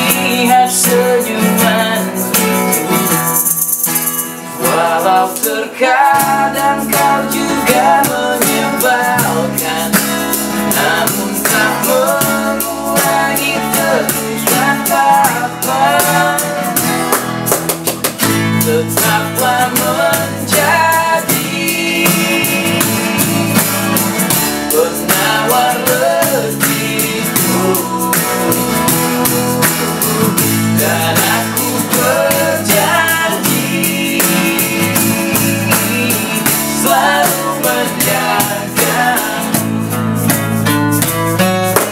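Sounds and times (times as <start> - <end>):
man singing pop ballad: 0.0 - 3.2, 4.5 - 17.1, 18.3 - 40.0
acoustic guitars strummed: 0.0 - 41.9
bass guitar: 0.0 - 41.9.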